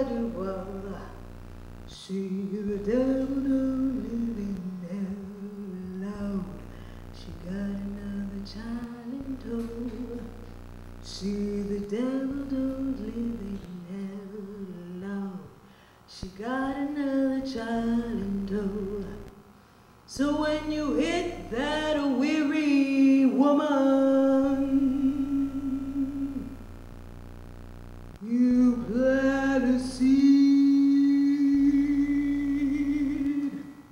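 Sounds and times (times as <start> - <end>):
woman singing unaccompanied: 0.0 - 1.3, 1.9 - 10.4, 11.0 - 19.5, 20.1 - 26.6, 28.2 - 33.9.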